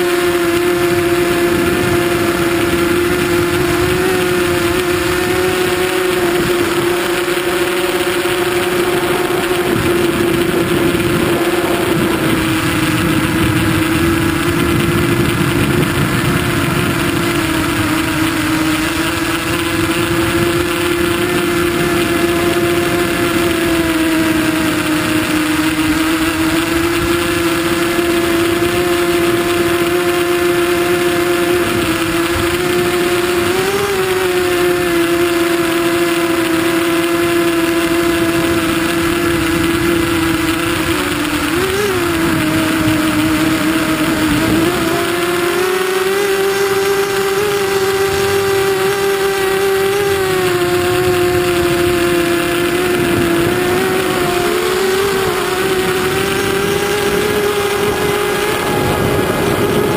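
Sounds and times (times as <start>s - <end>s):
drone motors and propellers whining: 0.0s - 59.9s.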